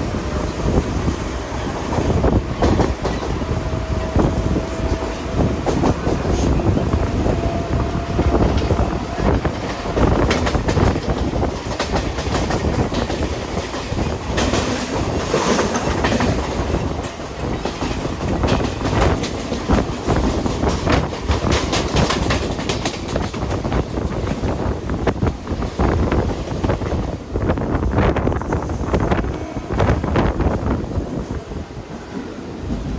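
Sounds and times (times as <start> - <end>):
train rushing noise: 0.0 - 32.9
train wheels clattering on rails: 0.0 - 32.9.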